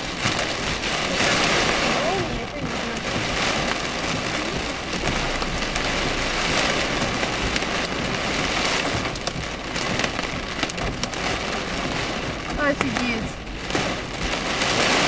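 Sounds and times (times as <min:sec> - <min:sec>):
heavy rain on car roof: 0:00.0 - 0:15.0
sharp raindrop hits: 0:00.0 - 0:15.0.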